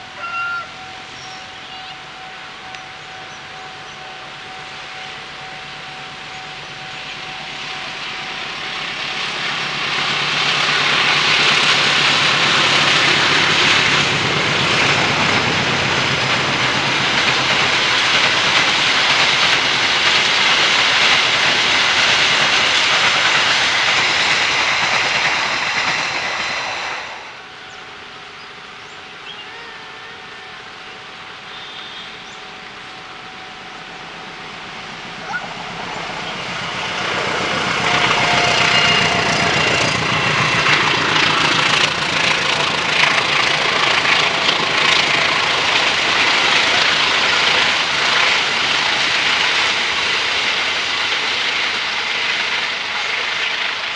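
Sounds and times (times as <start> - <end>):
train passing on rails: 0.0 - 53.9.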